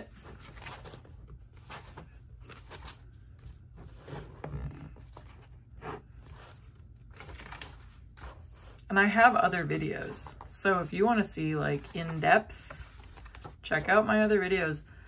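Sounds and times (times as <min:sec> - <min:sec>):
paper pages rustling: 0:00.0 - 0:14.6.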